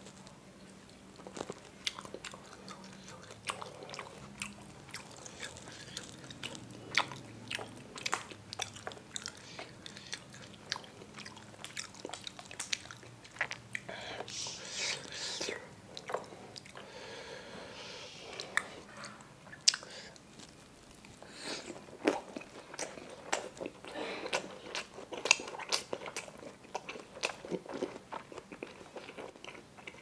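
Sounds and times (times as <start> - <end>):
chewing meatballs: 0.0 - 14.4, 15.4 - 17.4, 18.2 - 30.0.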